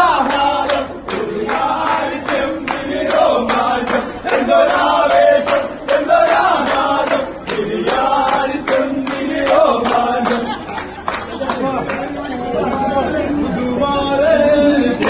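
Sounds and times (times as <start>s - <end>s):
men singing in chorus: 0.0s - 10.6s, 12.6s - 15.0s
hands clapping in time: 0.2s - 12.8s.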